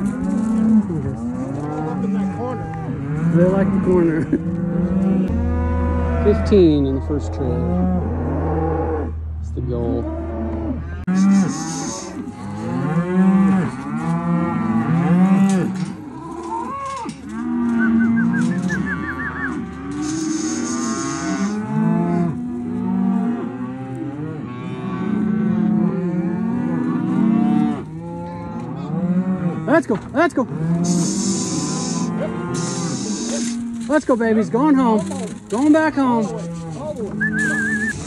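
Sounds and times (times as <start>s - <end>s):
cattle mooing: 0.0s - 38.0s.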